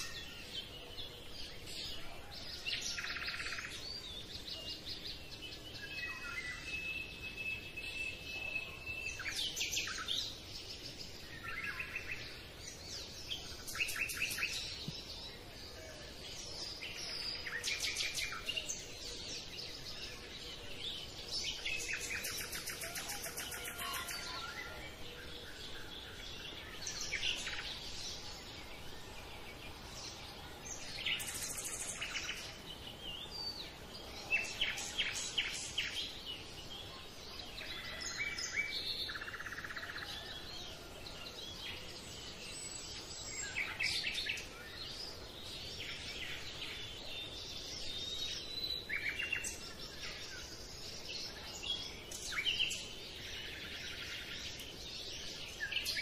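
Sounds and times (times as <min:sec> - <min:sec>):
birds chirping and calling: 0:00.0 - 0:15.3, 0:16.1 - 0:56.0
steady background hiss: 0:00.0 - 0:56.0.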